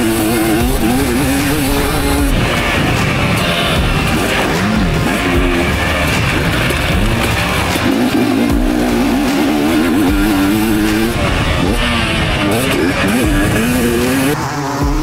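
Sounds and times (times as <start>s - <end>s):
dirt bike engine revving: 0.0s - 15.0s
music playing: 0.0s - 15.0s.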